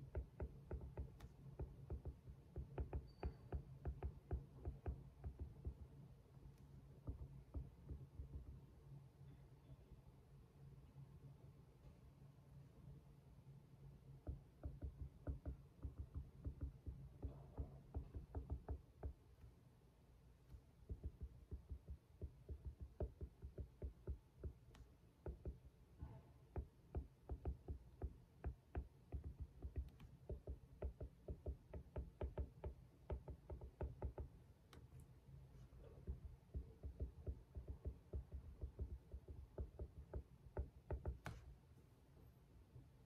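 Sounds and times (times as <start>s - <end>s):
light tapping at a desk: 0.0s - 8.7s, 14.2s - 19.6s, 20.4s - 41.6s.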